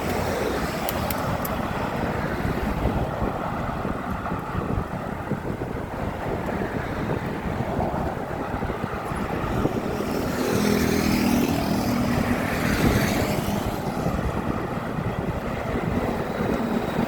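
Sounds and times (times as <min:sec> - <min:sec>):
road traffic rushing past: 0:00.0 - 0:17.0
vehicle engine humming: 0:00.0 - 0:17.0.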